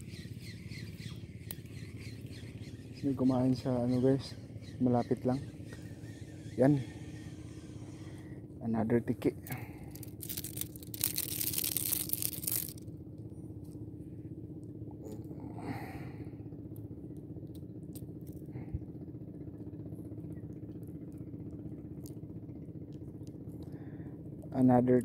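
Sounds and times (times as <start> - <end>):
steady low engine hum: 0.0 - 25.0.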